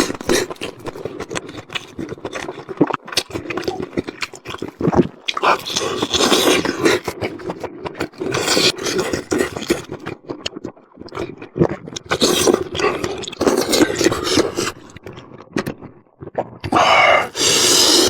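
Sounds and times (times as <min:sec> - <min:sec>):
chewing and smacking food: 0:00.0 - 0:18.0.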